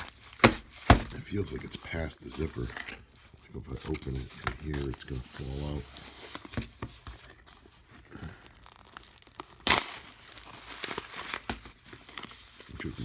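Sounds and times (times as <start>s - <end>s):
foil pouch crinkling: 0.0s - 13.0s.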